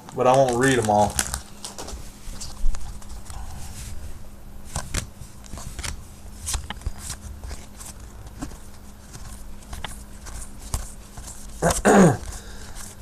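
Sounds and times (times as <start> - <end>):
trading cards flicking: 0.0 - 3.1, 4.7 - 13.0
faint steady hum: 0.0 - 13.0.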